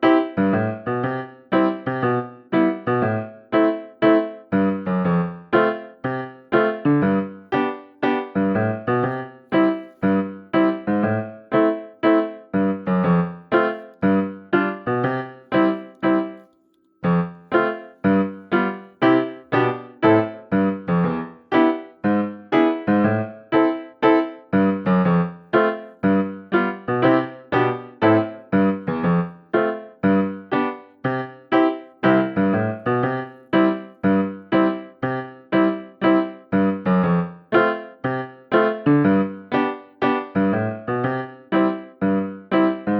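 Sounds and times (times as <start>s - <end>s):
piano playing bouncy notes: 0.0s - 42.9s.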